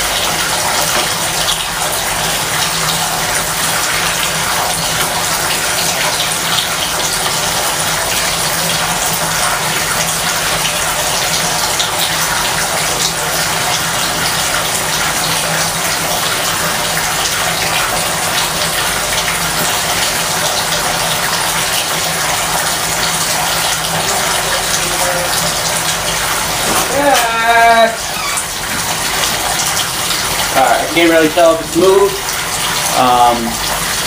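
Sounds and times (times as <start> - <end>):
bathtub faucet running: 0.0 - 34.0.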